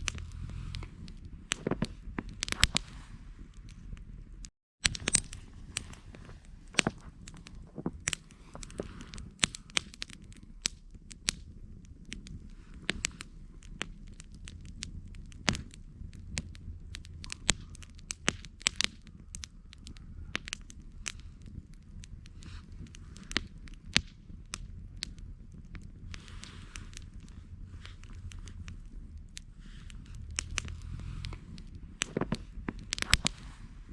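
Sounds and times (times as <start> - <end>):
campfire crackling and popping: 0.0 - 33.9
low steady rumble: 0.0 - 33.9.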